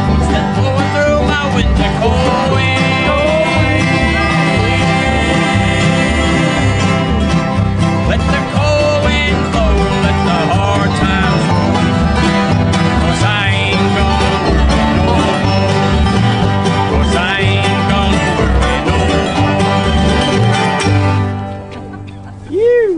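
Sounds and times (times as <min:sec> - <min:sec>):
banjo: 0:00.0 - 0:22.5
bass line: 0:00.0 - 0:22.9
guitar: 0:00.0 - 0:22.9.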